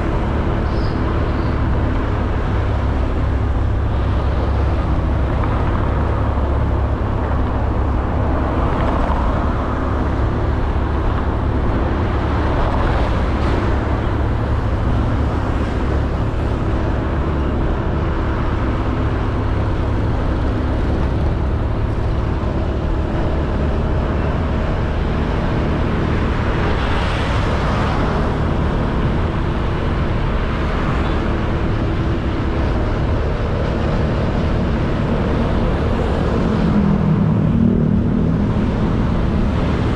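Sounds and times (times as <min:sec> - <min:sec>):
road noise: 0:00.0 - 0:39.9
wind rumble on microphone: 0:00.0 - 0:39.9.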